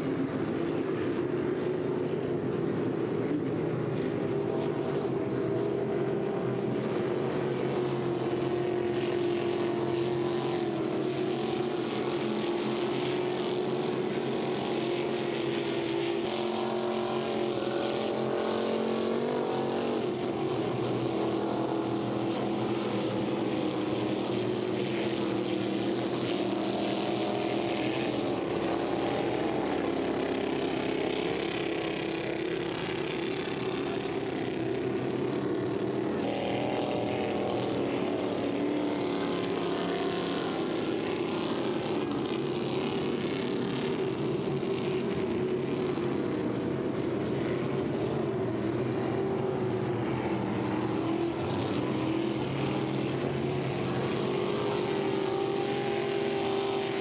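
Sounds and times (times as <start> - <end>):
racing boat engines droning: 0.0 - 57.0.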